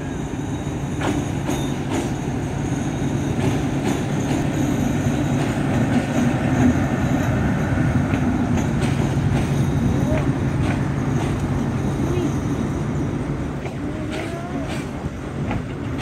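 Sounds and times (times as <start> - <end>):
train engine and wheels rumbling: 0.0 - 16.0.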